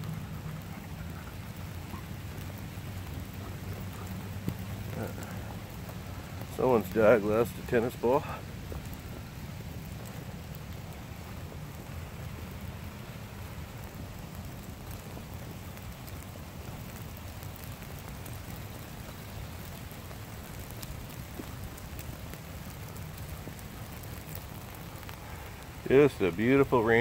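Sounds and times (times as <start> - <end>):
steady rain in woodland: 0.0 - 27.0.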